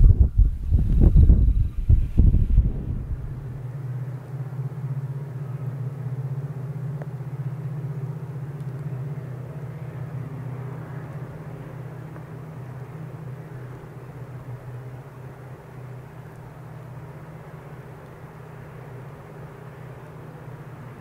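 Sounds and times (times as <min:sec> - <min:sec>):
diesel locomotive engine droning: 0:00.0 - 0:21.0.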